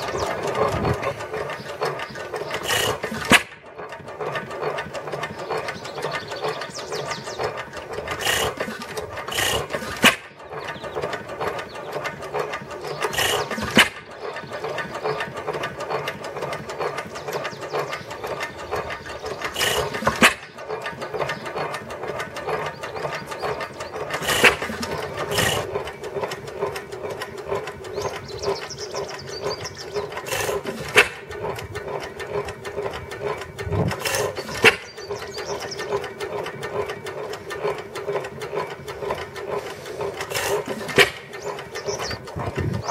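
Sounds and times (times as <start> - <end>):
engine firing stroke: 0.0 - 42.9
stationary engine running: 0.0 - 42.9
valve gear clattering: 0.0 - 42.9.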